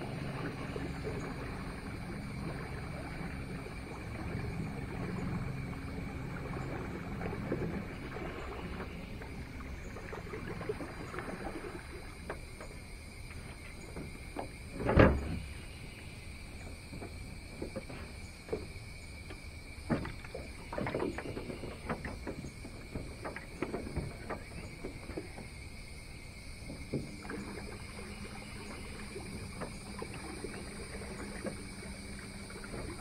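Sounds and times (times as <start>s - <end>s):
knocks and clunks in a boat: 0.0s - 33.0s
trolling motor humming: 0.0s - 33.0s.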